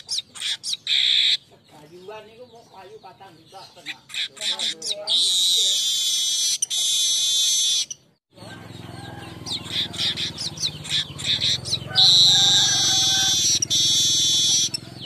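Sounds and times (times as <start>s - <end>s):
bird chirps and buzzy trills: 0.0s - 15.0s.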